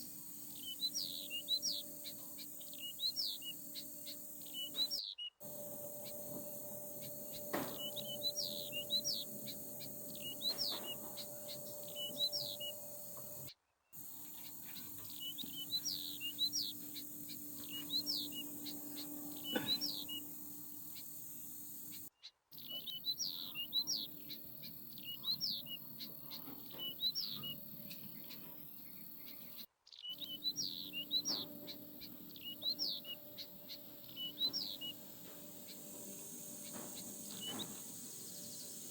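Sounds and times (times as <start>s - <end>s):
faint steady hum: 0.0s - 22.1s, 23.2s - 38.9s
small birds chirping: 0.0s - 38.9s.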